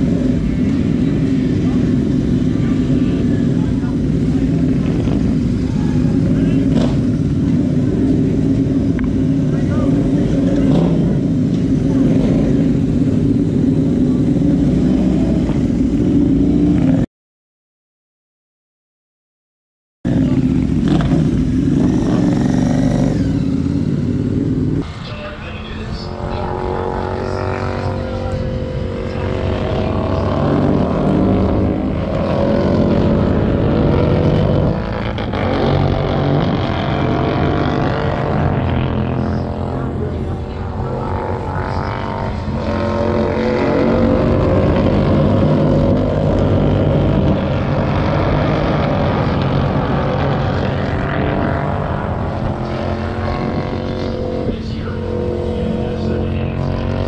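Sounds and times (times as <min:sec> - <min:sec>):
racing motorcycles at full throttle: 0:00.0 - 0:17.1, 0:20.1 - 0:57.0.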